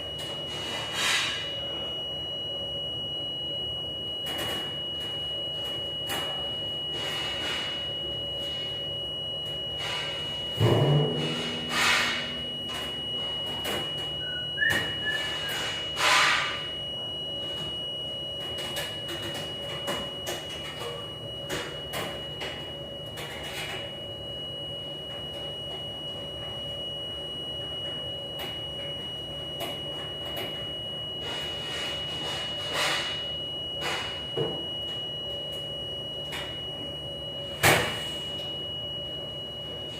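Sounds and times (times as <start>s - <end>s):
machinery hum with high whine: 0.0s - 39.9s.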